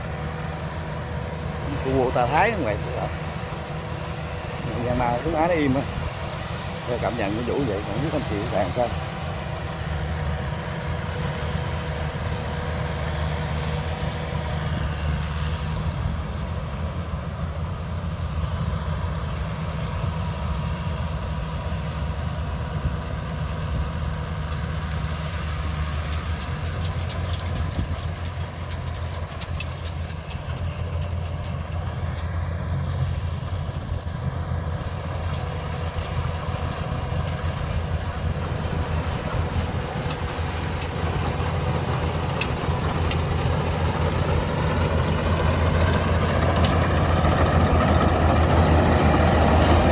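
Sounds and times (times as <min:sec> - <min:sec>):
harvester engine droning: 0:00.0 - 0:49.9.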